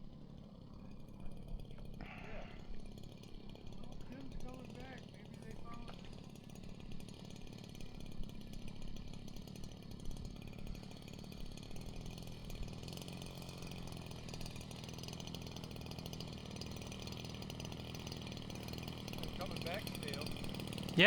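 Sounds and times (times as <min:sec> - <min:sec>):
model plane engine puttering: 0:00.8 - 0:21.0.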